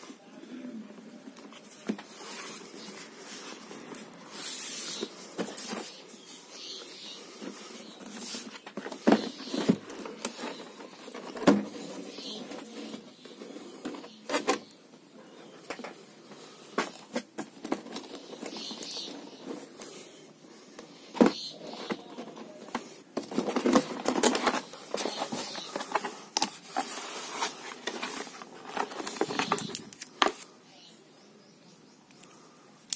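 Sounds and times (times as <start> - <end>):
cardboard scraping and rustling: 1.4 - 14.7, 15.7 - 30.5.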